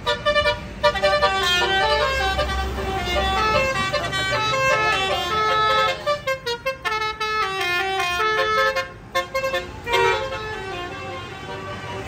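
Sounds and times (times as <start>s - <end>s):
musical air horn notes: 0.0s - 12.0s.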